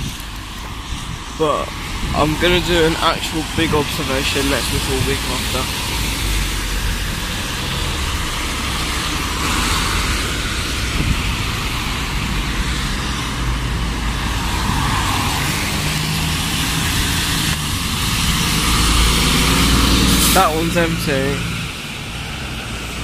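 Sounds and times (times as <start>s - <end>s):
bus passing: 0.0s - 23.0s
cars passing close by: 0.0s - 23.0s
low engine rumble: 0.0s - 23.0s
tyres hissing on wet road: 0.0s - 23.0s.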